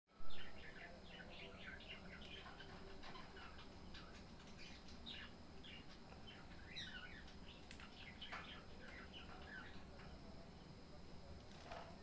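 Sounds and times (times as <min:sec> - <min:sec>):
pet bird chirping: 0:00.3 - 0:09.9.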